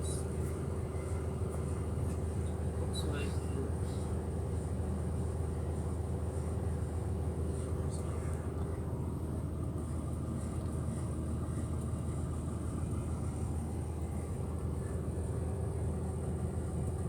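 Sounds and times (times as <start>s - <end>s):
machinery hum and rumble: 0.0s - 17.0s.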